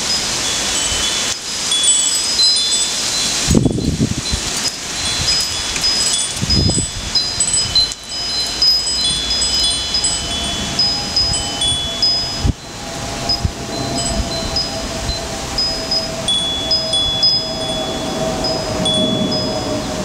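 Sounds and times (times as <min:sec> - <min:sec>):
chimes ringing: 0:00.0 - 0:20.0
steady hiss: 0:00.0 - 0:20.0
low rumbles: 0:02.2 - 0:20.0.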